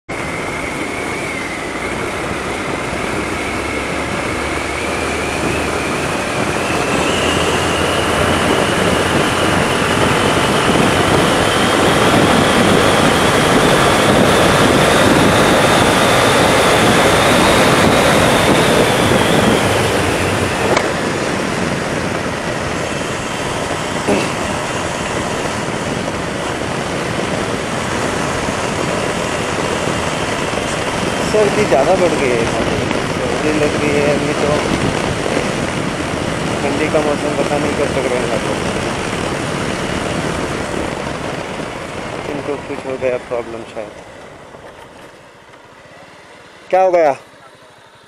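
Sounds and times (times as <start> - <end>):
motorcycle engine: 0.1 - 48.0
thin whine rising in pitch: 0.1 - 48.0
wind rush: 0.1 - 48.0.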